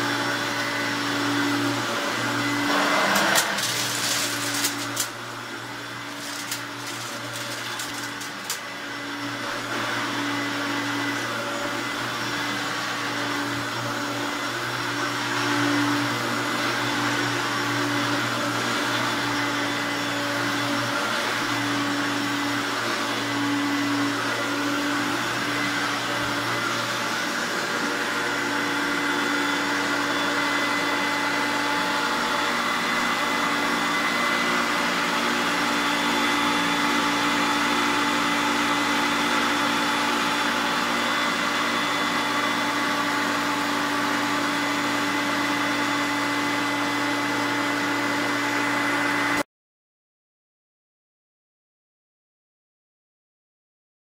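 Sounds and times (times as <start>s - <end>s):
vacuum cleaner running: 0.0s - 49.5s.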